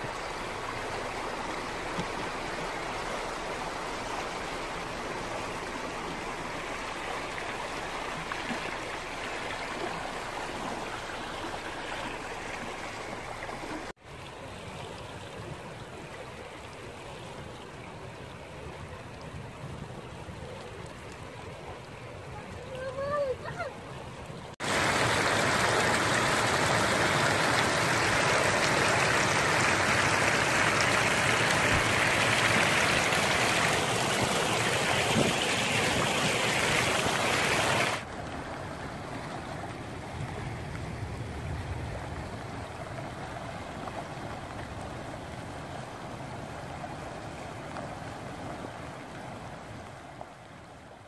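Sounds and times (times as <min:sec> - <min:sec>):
floodwater rushing: 0:00.0 - 0:51.0.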